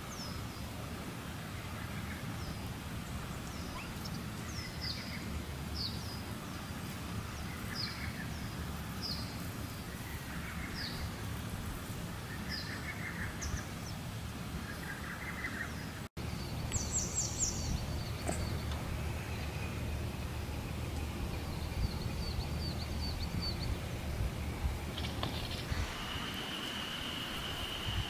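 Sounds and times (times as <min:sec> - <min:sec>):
low background rumble: 0:00.0 - 0:28.0
birds chirping: 0:01.4 - 0:28.0.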